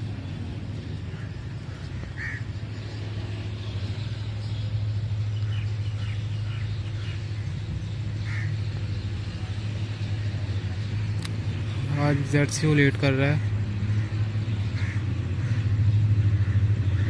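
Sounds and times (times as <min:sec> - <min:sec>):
birds calling faintly: 0:00.0 - 0:17.0
diesel locomotive engine drone: 0:00.0 - 0:17.0.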